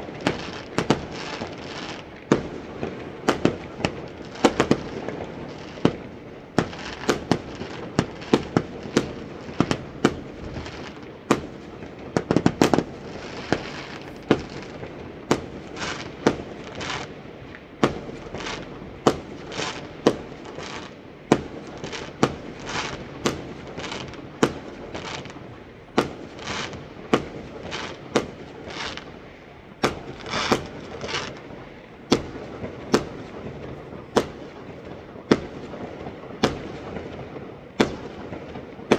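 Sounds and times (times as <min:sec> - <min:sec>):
fireworks banging: 0:00.0 - 0:38.9
fireworks crackling: 0:00.0 - 0:38.9.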